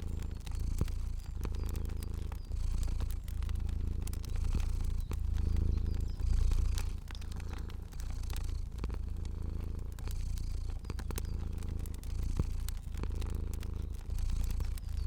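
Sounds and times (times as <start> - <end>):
cat purring: 0.0 - 15.0
fire crackling: 0.0 - 15.0.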